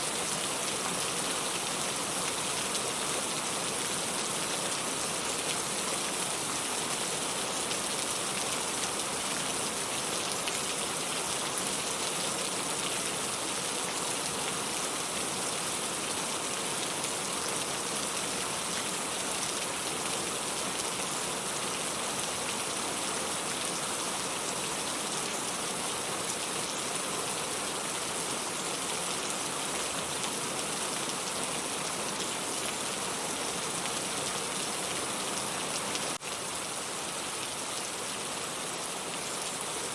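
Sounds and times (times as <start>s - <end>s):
steady falling rain: 0.0s - 39.9s.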